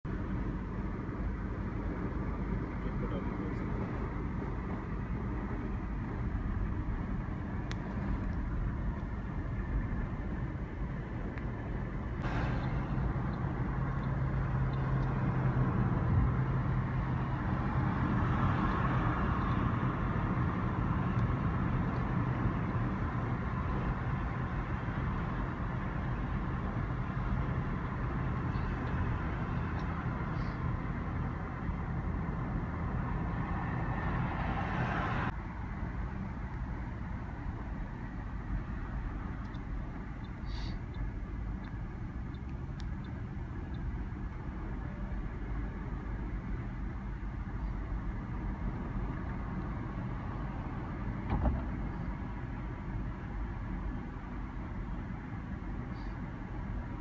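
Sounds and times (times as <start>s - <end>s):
low engine hum: 0.0s - 57.0s
tyre and road noise: 0.0s - 57.0s.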